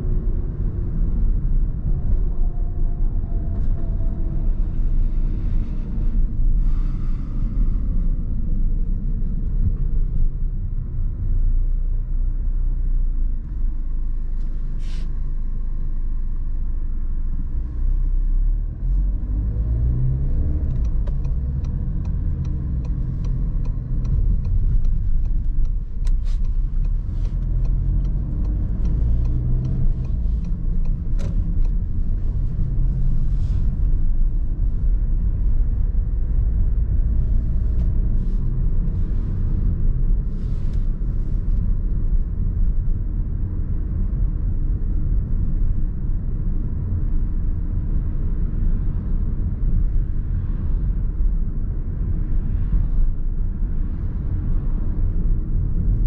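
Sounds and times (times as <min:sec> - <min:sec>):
traffic rumble: 0:00.0 - 0:56.0.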